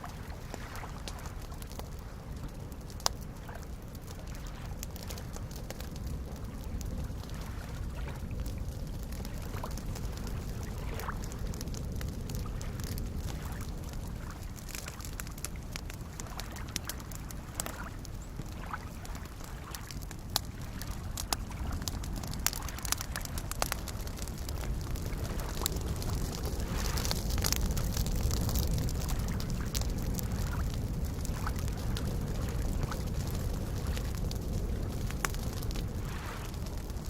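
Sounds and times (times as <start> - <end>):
small waves lapping: 0.0 - 30.7, 31.3 - 34.2, 34.8 - 37.0
campfire crackling and popping: 0.0 - 37.0.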